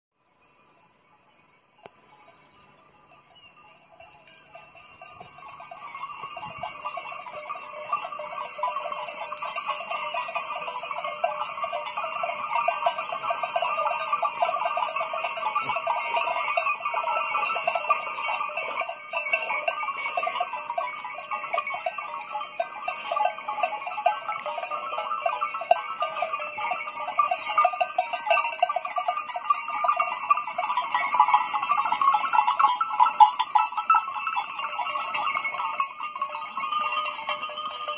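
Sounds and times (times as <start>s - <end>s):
goat neck bells clanking: 0.4s - 37.9s.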